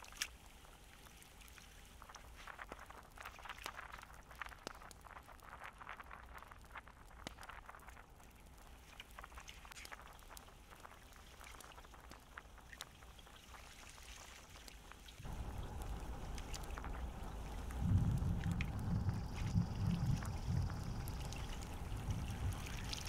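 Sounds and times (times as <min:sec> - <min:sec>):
water dripping and splashing: 0:00.0 - 0:23.0.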